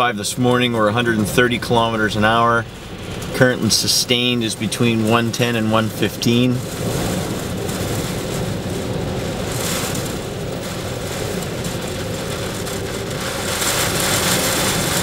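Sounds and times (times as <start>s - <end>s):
heavy surf breaking: 0.0s - 15.0s
storm wind buffeting a car: 0.0s - 15.0s.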